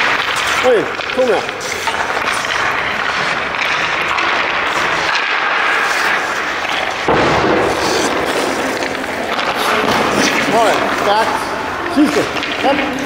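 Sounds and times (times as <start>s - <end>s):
skates scraping on ice: 0.0s - 13.0s.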